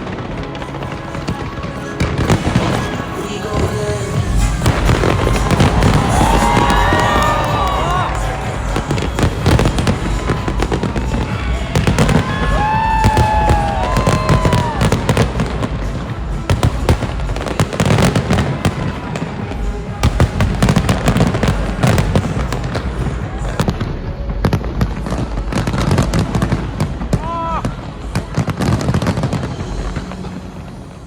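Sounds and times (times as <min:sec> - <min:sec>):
fireworks bangs and crackles: 0:00.0 - 0:31.0
whistling fireworks: 0:00.0 - 0:31.0
low rumble: 0:03.8 - 0:31.0.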